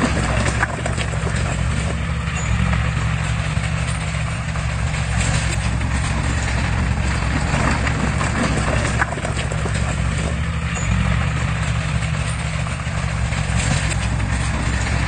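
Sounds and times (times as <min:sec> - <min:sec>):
heavy diesel engine running: 0:00.0 - 0:15.0
metal clattering and clanking: 0:00.0 - 0:15.0.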